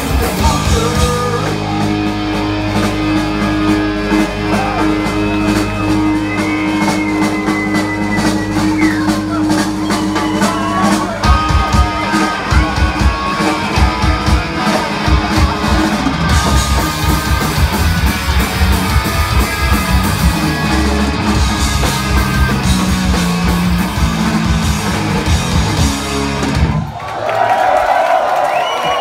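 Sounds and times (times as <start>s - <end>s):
punk rock band playing live: 0.0s - 27.0s.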